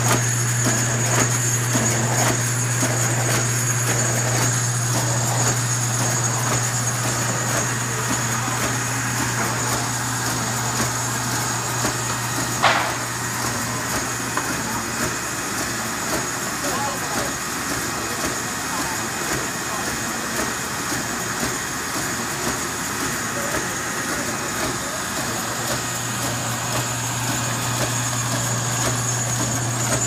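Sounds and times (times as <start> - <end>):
card slitter machine humming: 0.0 - 17.3, 20.1 - 30.0.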